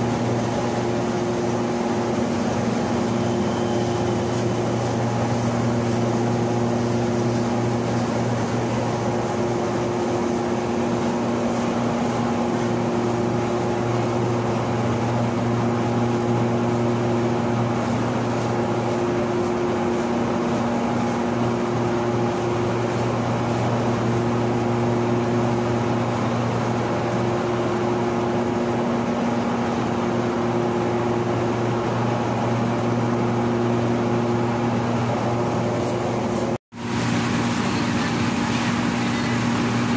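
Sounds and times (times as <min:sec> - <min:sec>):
corn milling machine drone: 0:00.0 - 0:39.9.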